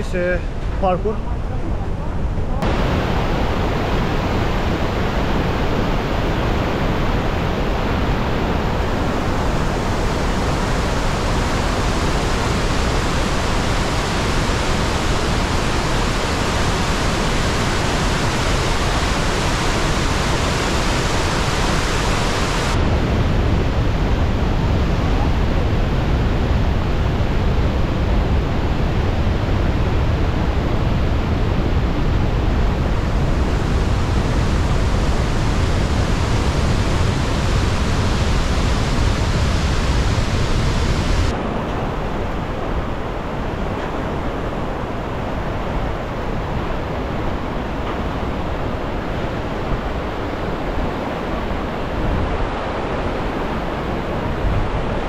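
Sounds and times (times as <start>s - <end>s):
waterfall roaring: 2.6s - 55.0s.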